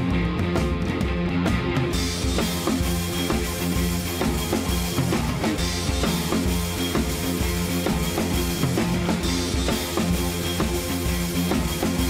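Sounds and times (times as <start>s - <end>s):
rock music with drum beat: 0.0s - 12.0s.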